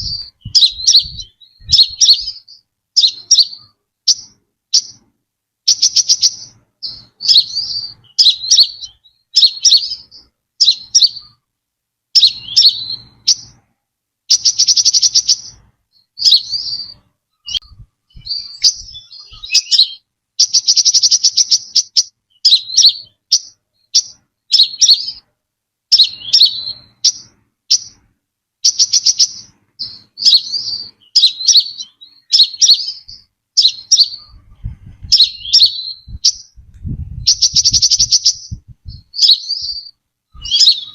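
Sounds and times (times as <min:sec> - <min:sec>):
bird trills: 0:00.0 - 0:05.0, 0:05.6 - 0:11.4, 0:12.2 - 0:13.6, 0:14.3 - 0:25.3, 0:25.9 - 0:36.6, 0:37.2 - 0:40.9
bird chirping: 0:00.0 - 0:11.5, 0:12.1 - 0:40.9.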